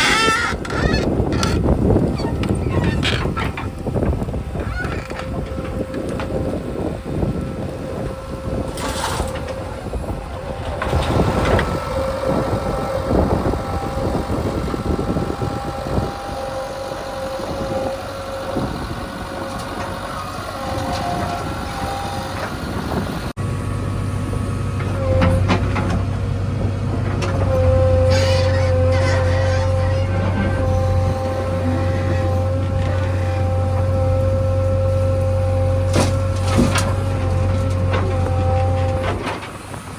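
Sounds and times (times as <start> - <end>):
deep engine drone: 0.0 - 39.9
diesel engines running: 0.0 - 39.9.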